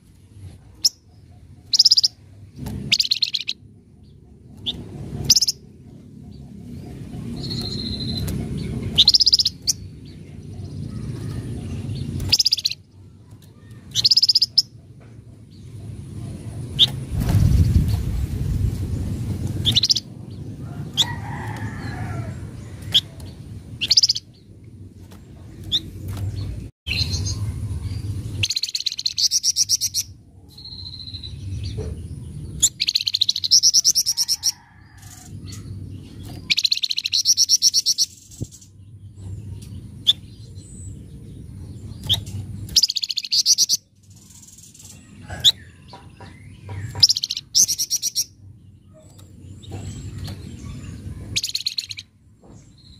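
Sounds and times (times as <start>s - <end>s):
songbird chattering trills: 0.7s - 17.0s, 22.7s - 24.4s, 25.7s - 34.7s, 35.5s - 52.1s.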